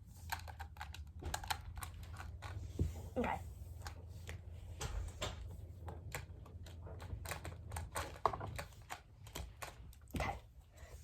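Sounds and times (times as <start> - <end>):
low steady hum: 0.0 - 11.0
plastic toys clicking and tapping: 0.2 - 2.9, 3.8 - 10.5.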